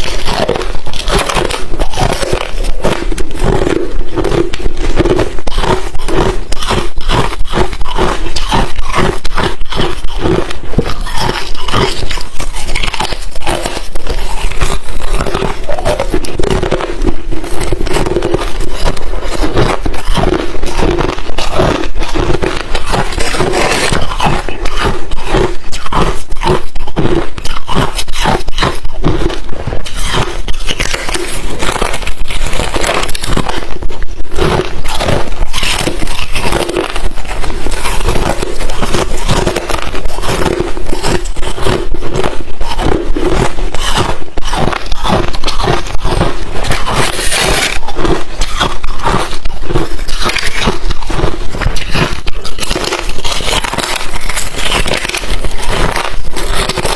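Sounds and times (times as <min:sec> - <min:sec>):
ice chewing crunches: 0:00.0 - 0:56.9.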